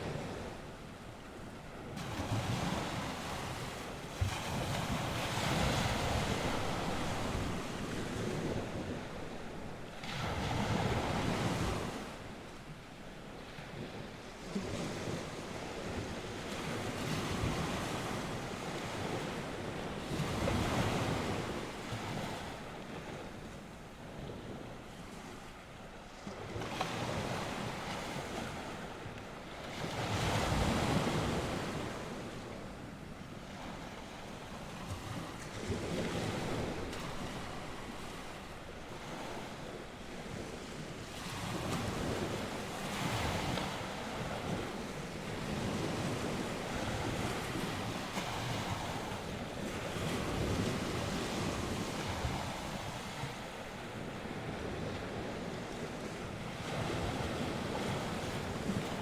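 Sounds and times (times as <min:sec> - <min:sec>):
waves breaking on shore: 0:00.0 - 0:59.0
wind blowing across microphone: 0:00.0 - 0:59.0.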